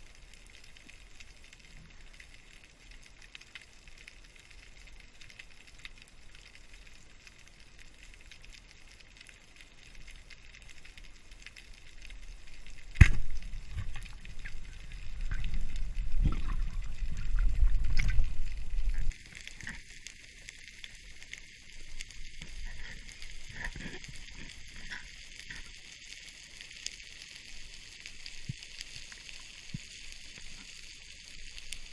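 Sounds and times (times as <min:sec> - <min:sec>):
faint underwater crackling: 0:00.0 - 0:31.9
low rumbling and water movement: 0:00.0 - 0:31.9.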